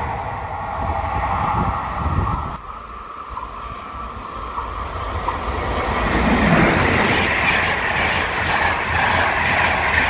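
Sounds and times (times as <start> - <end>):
train wheels running on rails: 0.0 - 10.0.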